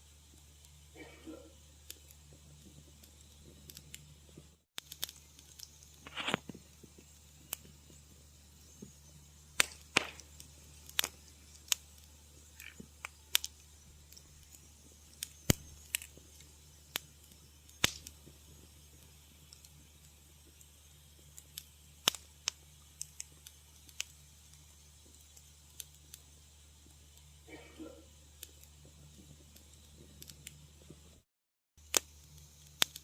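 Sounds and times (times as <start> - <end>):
wood fire crackling: 0.0 - 31.2, 31.8 - 33.0.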